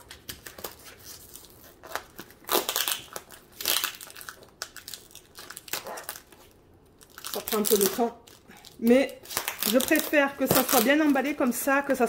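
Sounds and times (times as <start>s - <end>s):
cardboard and tape crinkling: 0.0s - 11.7s.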